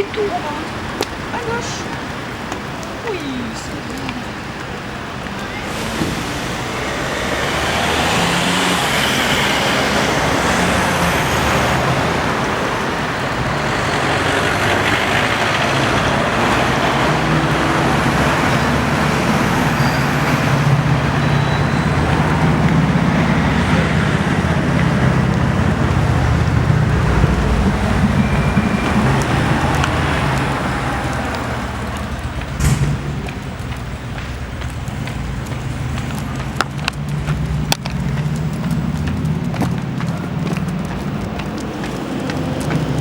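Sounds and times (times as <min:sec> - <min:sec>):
cars passing: 0:00.0 - 0:43.0
heavy engine hum: 0:00.0 - 0:43.0.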